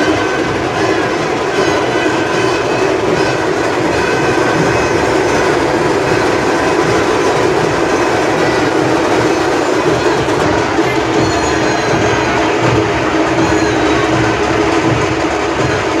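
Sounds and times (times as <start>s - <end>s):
large festival crowd din: 0.0s - 16.0s.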